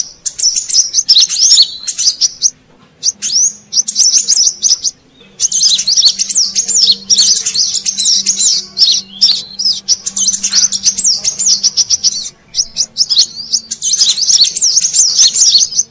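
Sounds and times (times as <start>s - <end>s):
birds chirping and twittering: 0.0s - 15.9s
faint low hum: 0.0s - 15.9s.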